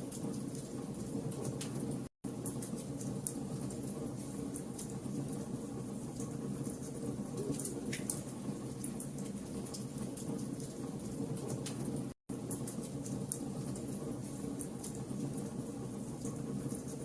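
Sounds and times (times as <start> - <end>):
fire burning with low rumble: 0.0 - 17.0
fire crackling and popping: 0.0 - 17.0.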